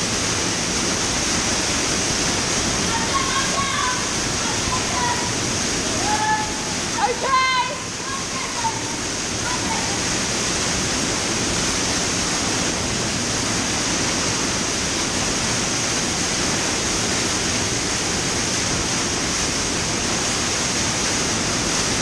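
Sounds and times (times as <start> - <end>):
waterfall rushing and splashing: 0.0 - 22.0.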